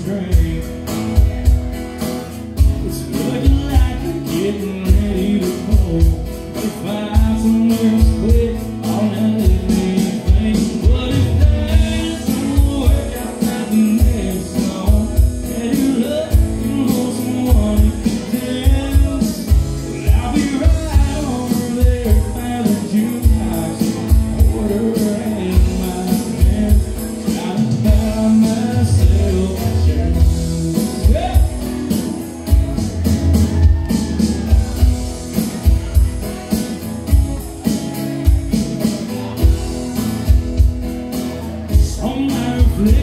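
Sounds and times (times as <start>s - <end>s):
man singing: 0.0s - 43.0s
strummed acoustic guitar: 0.0s - 43.0s.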